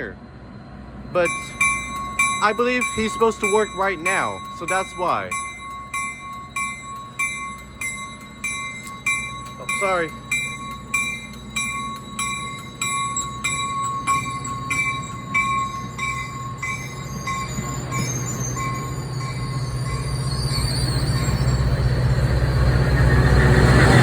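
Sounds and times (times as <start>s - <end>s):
diesel locomotive engine rumble: 0.0s - 24.0s
bell ringing: 1.0s - 21.9s.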